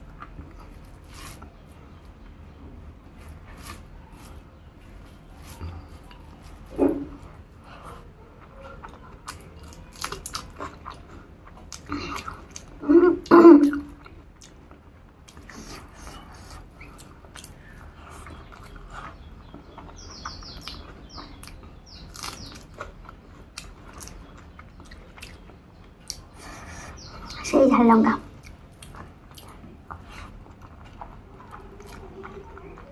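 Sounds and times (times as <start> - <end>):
person chewing food: 0.0 - 27.5, 28.3 - 32.9.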